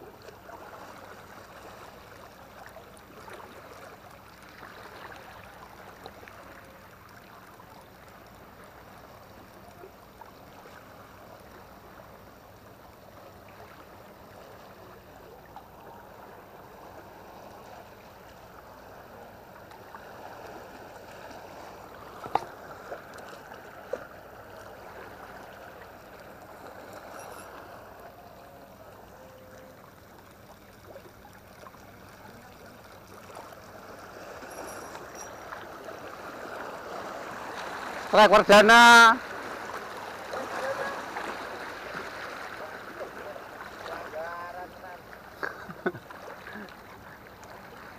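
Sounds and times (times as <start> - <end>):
seawater lapping against rocks: 0.0 - 47.9.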